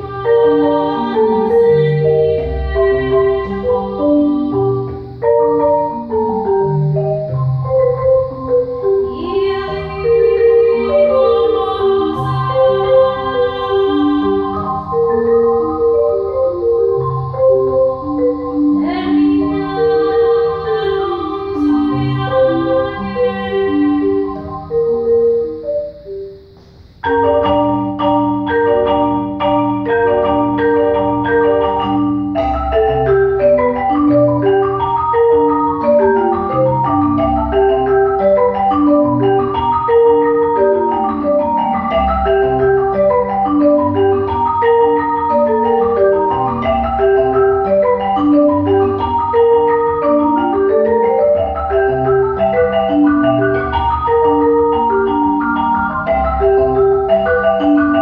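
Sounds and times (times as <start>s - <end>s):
marimbas playing: 0.0s - 58.0s.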